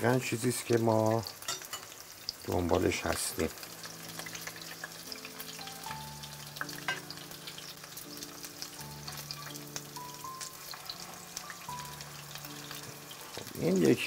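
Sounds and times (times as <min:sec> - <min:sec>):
meat sizzling in oil: 0:00.0 - 0:14.0
soft background music: 0:00.0 - 0:14.0.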